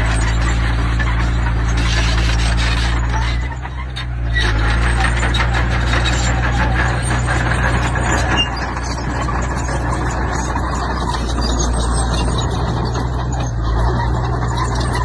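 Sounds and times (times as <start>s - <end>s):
diesel engine running: 0.0s - 15.0s
metallic clanking and rattling: 0.0s - 15.0s.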